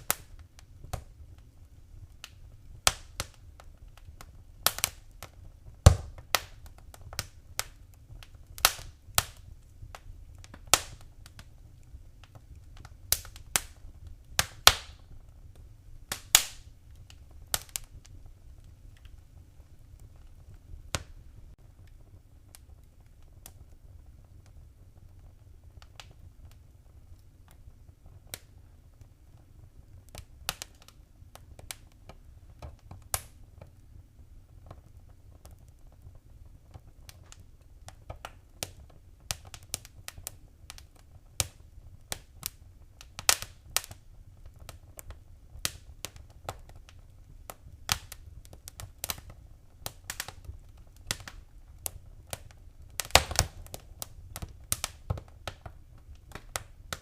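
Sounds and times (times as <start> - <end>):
low rumble of flames: 0.0 - 57.0
wood fire popping and snapping: 0.0 - 57.0.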